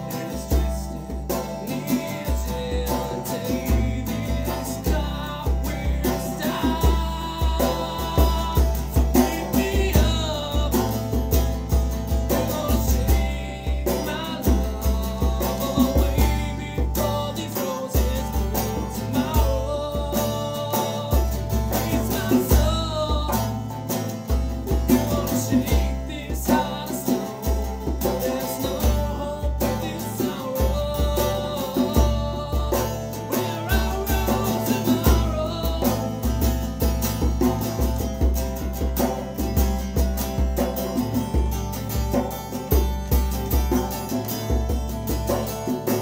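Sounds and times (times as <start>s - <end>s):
man singing: 0.0s - 39.5s
acoustic bass guitar: 0.0s - 46.0s
djembe hand drum beat: 0.0s - 46.0s
strummed acoustic guitar: 0.0s - 46.0s.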